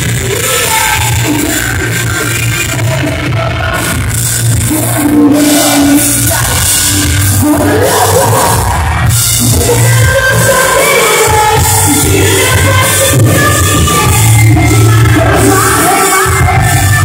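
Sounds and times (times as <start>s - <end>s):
drums: 0.0s - 17.0s
electric guitar: 0.0s - 17.0s
lead singer's vocals: 0.0s - 17.0s.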